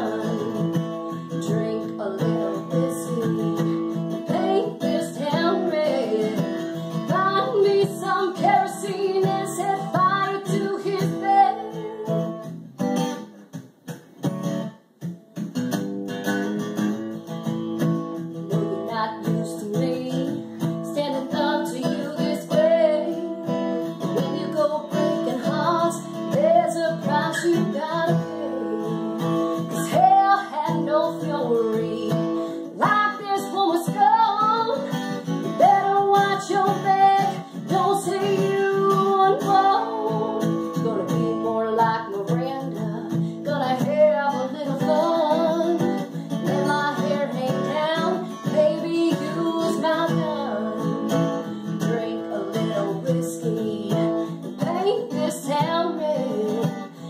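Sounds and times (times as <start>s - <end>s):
person singing: 0.0s - 12.4s, 18.3s - 57.0s
strummed acoustic guitar: 0.0s - 57.0s.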